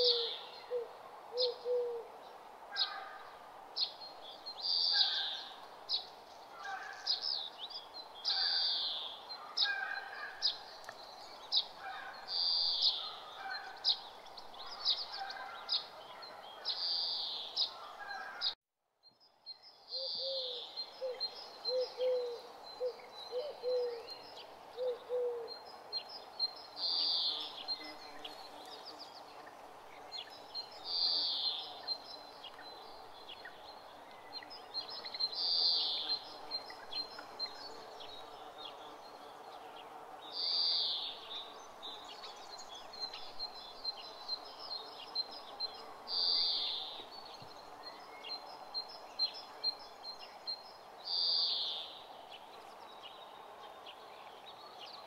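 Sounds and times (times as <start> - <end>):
steady background hiss: 0.0 - 18.0, 19.7 - 55.0.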